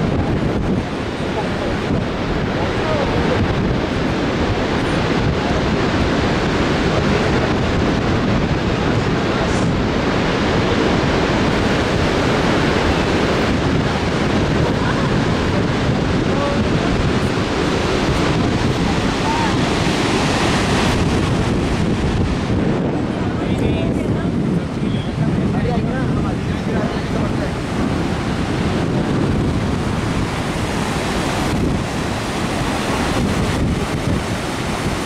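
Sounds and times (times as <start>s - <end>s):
waterfall rushing: 0.0s - 35.0s
wind on microphone: 0.0s - 35.0s.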